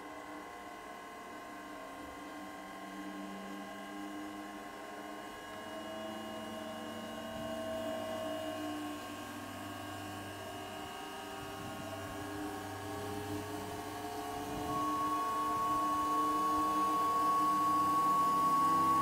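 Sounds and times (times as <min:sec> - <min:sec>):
centrifuge humming and whining: 0:00.0 - 0:19.0.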